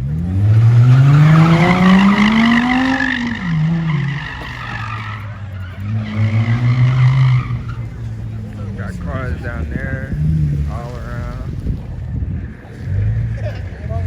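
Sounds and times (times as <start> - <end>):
car engine revving hard: 0.0 - 14.0
tires squealing: 0.0 - 14.0.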